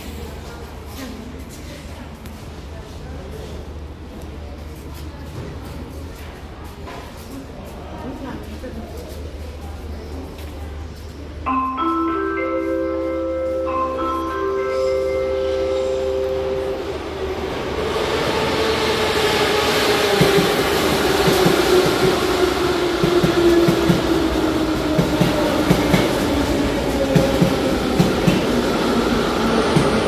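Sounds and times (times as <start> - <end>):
train rumble and braking whine: 0.0 - 30.0.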